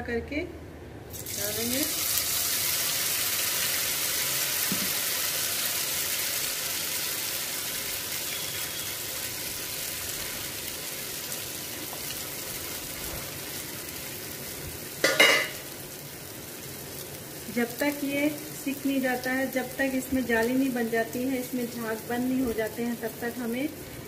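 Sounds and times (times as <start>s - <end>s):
batter sizzling in ghee: 1.1s - 24.0s.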